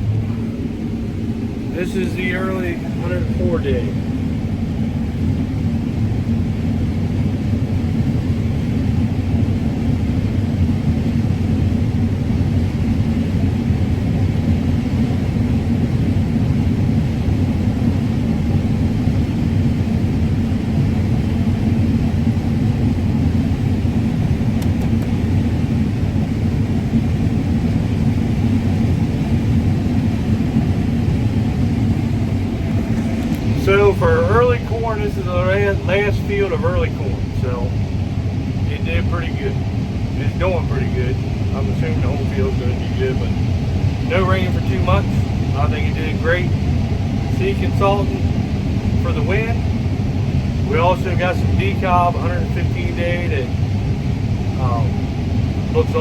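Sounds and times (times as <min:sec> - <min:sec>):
combine harvester engine rumble: 0:00.0 - 0:56.0
faint steady hum: 0:00.0 - 0:56.0.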